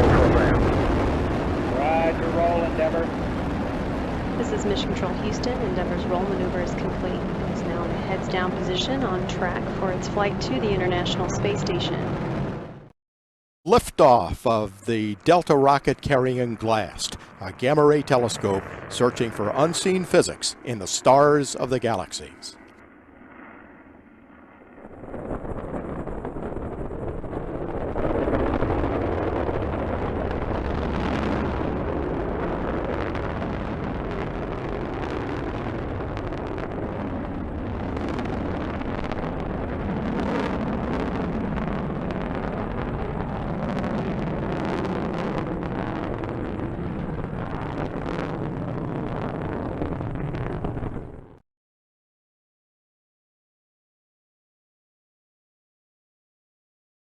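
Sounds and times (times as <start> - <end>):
rocket engines roaring: 0.0 - 12.9, 13.7 - 23.8, 24.6 - 51.4.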